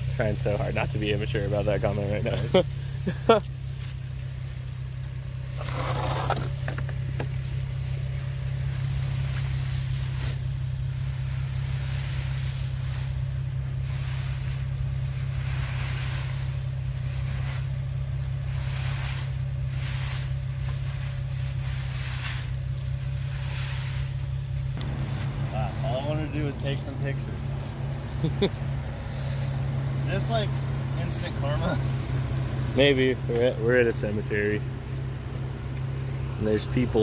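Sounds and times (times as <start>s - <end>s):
car engine idling: 0.0s - 37.0s
dry leaves rustling and scraping: 3.5s - 34.6s.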